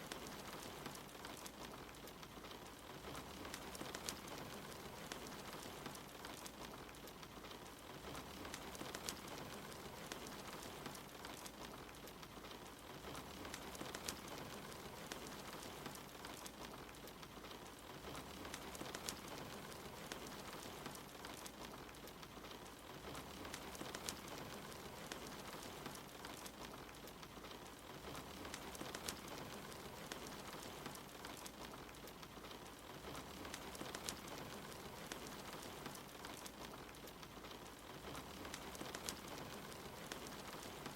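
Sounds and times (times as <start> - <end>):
soft rain hissing: 0.0 - 40.9
wood fire crackling: 0.0 - 40.9.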